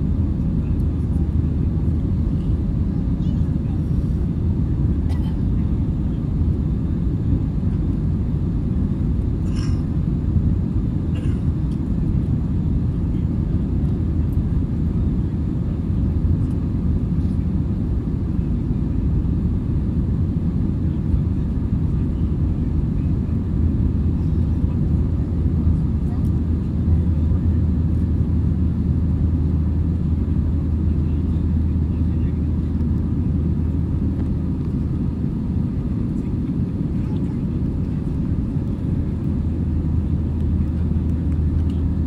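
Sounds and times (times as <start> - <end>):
jet engine drone in cabin: 0.0 - 42.0.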